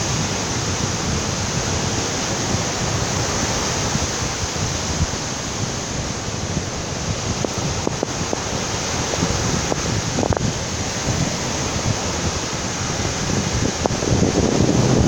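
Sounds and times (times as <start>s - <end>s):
sea waves breaking and receding: 0.0s - 15.0s.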